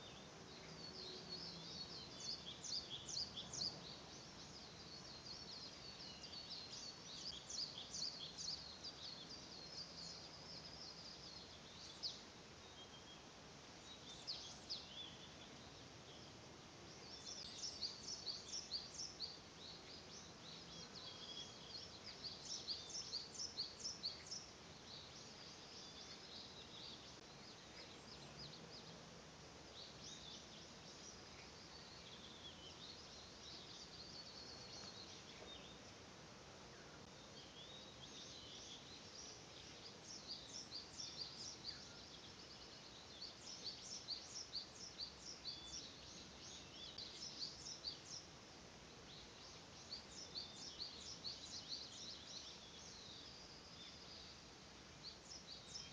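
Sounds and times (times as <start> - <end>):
faint steady hiss: 0.0 - 55.9
songbirds singing: 0.0 - 55.9.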